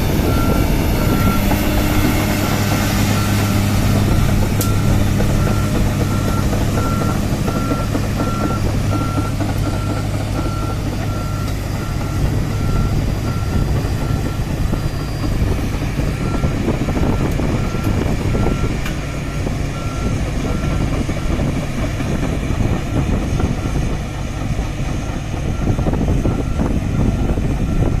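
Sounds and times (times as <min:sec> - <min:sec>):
diesel engine running: 0:00.0 - 0:28.0
excavator travel alarm beeping: 0:00.0 - 0:28.0.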